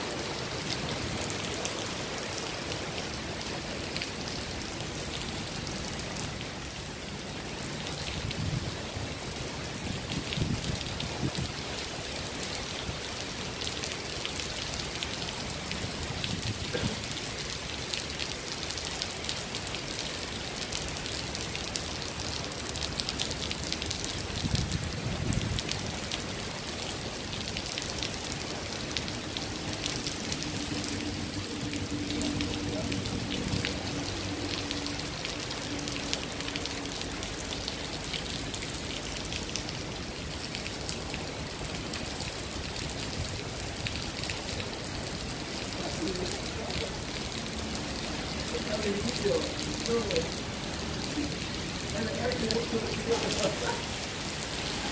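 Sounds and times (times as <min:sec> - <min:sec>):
heavy rain on stone paving: 0:00.0 - 0:54.9
runoff spilling onto paving: 0:00.1 - 0:54.9.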